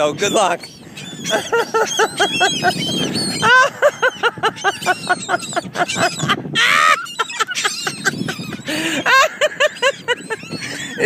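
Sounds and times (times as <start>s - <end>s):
seagulls calling: 0.0s - 11.0s.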